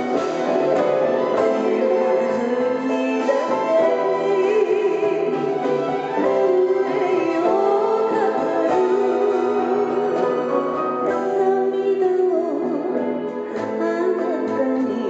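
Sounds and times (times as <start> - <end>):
instrumental accompaniment: 0.0 - 15.0
woman singing into microphone: 1.2 - 15.0.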